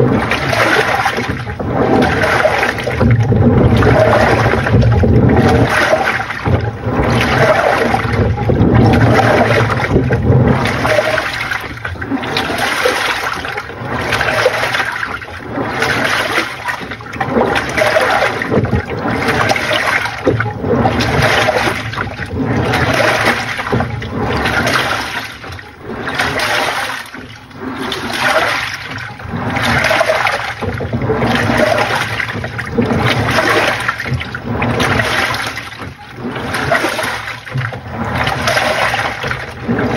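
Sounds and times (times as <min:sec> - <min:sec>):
washing machine water sloshing: 0:00.0 - 0:39.9.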